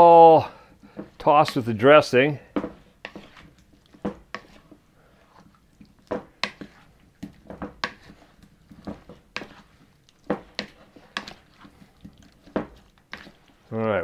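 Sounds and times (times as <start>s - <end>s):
wet squishing of potatoes: 0.5s - 14.0s
wooden spoon scraping a bowl: 0.8s - 14.0s.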